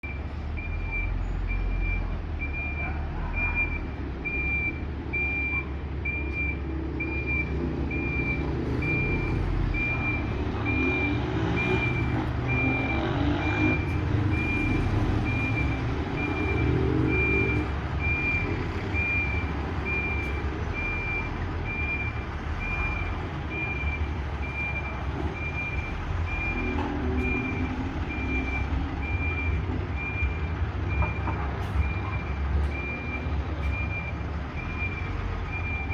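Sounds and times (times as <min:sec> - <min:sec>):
diesel engine running: 0:00.0 - 0:35.9
truck reversing alarm beeping: 0:00.0 - 0:35.9.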